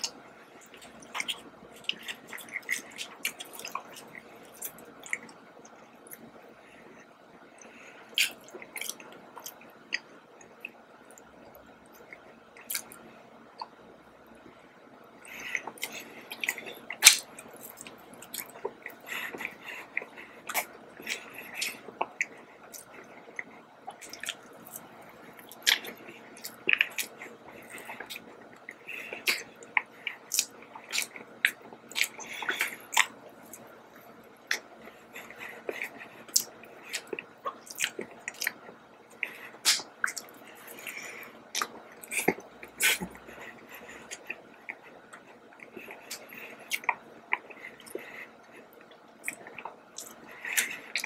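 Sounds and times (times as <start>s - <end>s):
person chewing donut: 0.0s - 6.9s, 7.5s - 13.9s, 15.2s - 51.0s.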